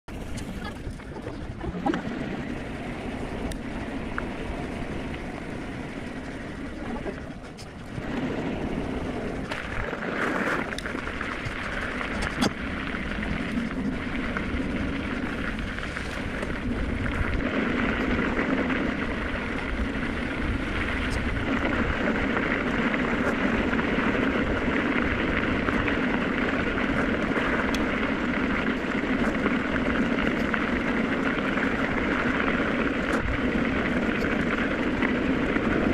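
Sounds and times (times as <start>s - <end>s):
bike tyres rolling on gravel: 0.1s - 35.9s
electric motor hum: 0.1s - 35.9s.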